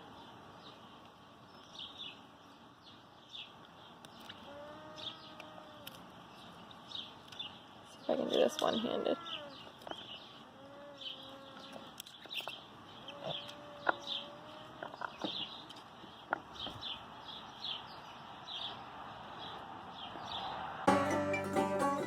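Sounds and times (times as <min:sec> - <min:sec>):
small birds chirping: 0:00.0 - 0:20.6
long steady bird call: 0:00.0 - 0:22.0.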